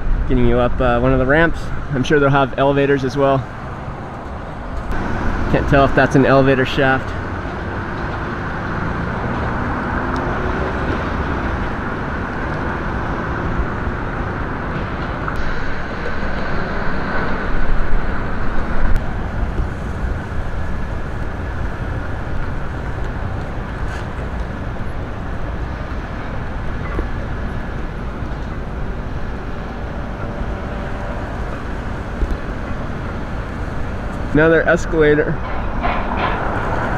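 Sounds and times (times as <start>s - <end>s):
car road and engine noise: 0.0s - 36.9s.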